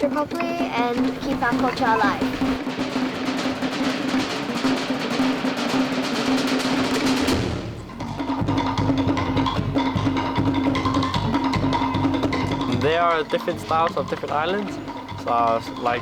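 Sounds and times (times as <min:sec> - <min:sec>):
deep drum strokes: 0:00.0 - 0:16.0
drum ensemble playing: 0:00.0 - 0:16.0.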